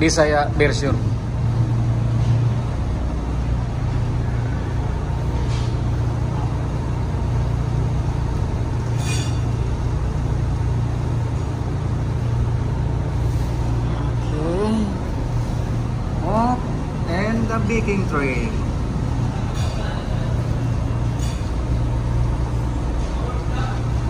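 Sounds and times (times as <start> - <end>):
low machinery drone: 0.0 - 24.0.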